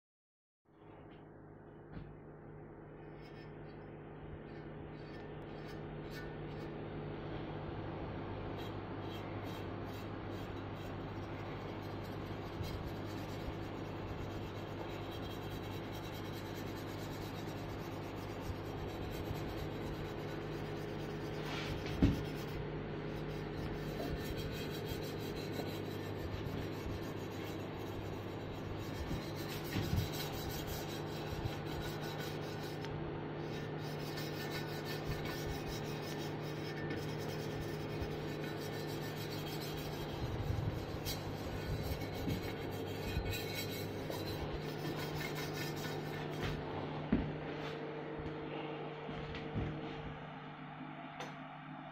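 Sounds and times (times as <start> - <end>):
steady low hum: 0.7 - 51.9
scratchy rubbing on bike frame: 3.0 - 6.8, 8.5 - 46.6.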